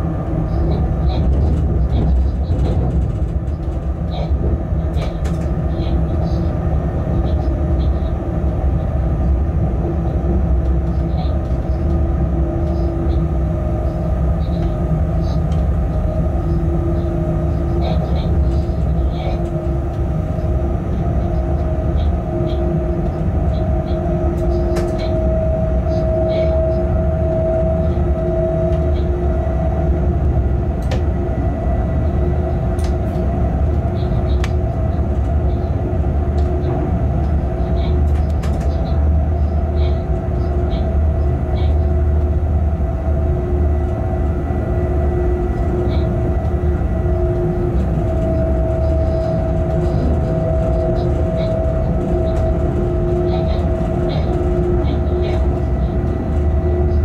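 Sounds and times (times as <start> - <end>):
locomotive rumble: 0.0 - 57.0
steady hum tones: 5.6 - 57.0.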